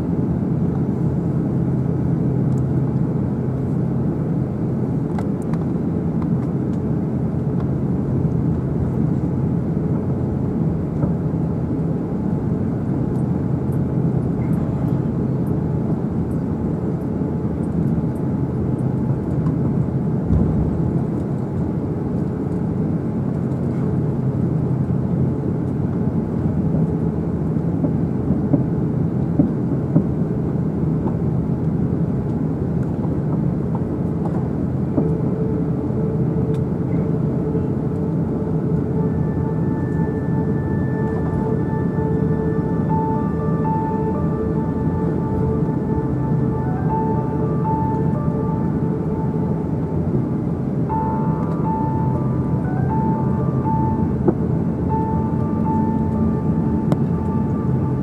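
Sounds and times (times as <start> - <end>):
aircraft cabin drone: 0.0 - 58.0.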